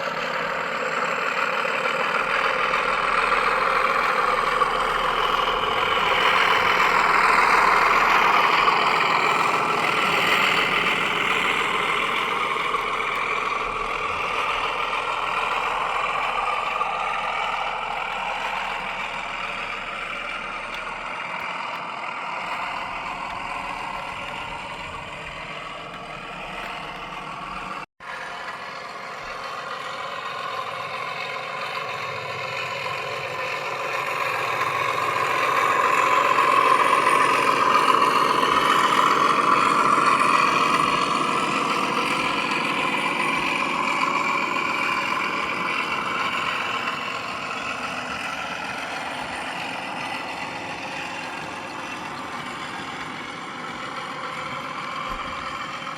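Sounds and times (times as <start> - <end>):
diesel engine sound from speaker: 0.0 - 55.9.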